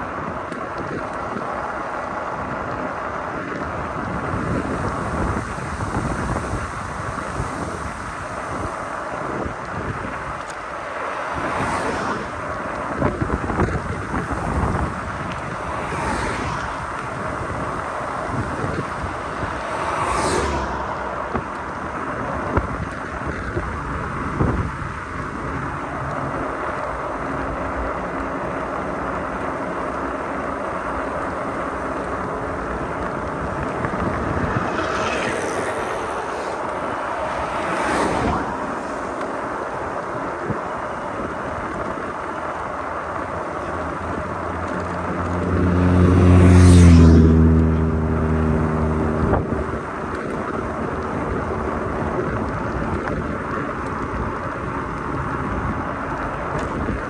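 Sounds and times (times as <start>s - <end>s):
passing vehicle engine hum: 0.0s - 57.0s
wind rush on microphone: 0.0s - 57.0s.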